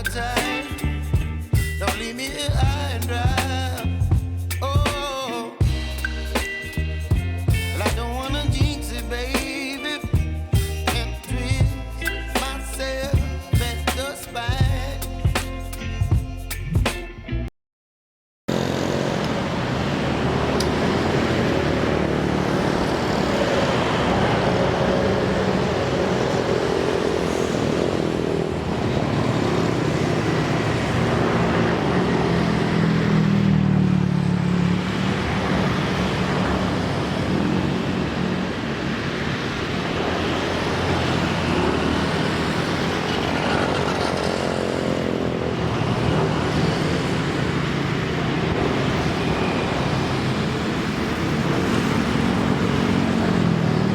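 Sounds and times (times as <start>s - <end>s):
diesel locomotive engine humming: 0.0s - 17.0s, 18.5s - 53.9s.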